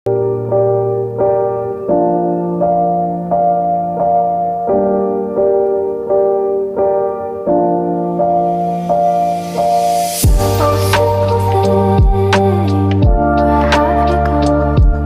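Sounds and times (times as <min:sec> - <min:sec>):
piano chords: 0:00.1 - 0:15.0.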